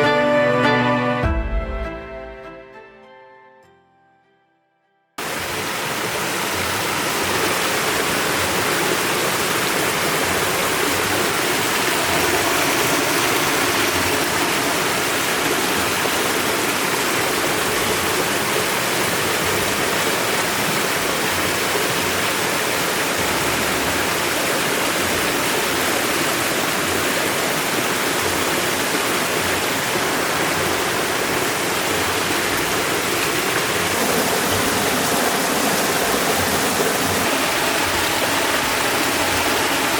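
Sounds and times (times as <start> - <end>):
river water rushing: 5.2 - 39.9.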